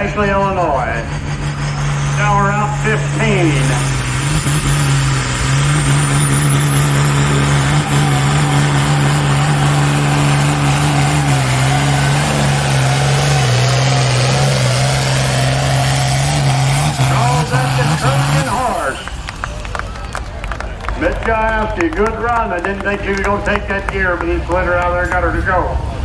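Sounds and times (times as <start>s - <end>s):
tractor engine running hard: 0.0s - 26.0s.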